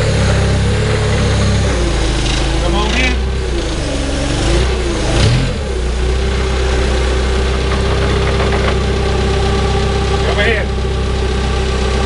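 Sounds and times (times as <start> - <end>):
engine idling: 0.0 - 12.0
steady whine: 0.0 - 12.0.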